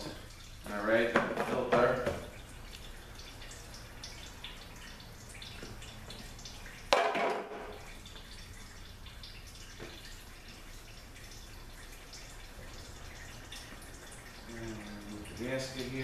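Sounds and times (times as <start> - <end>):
fluid dripping: 0.0 - 16.0.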